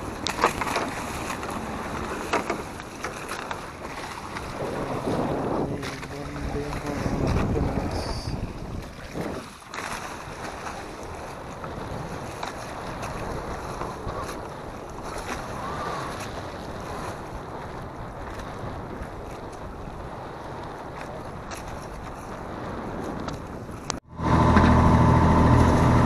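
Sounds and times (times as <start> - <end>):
sea waves washing against boat: 0.0 - 26.0
wind buffeting microphone: 0.0 - 26.0.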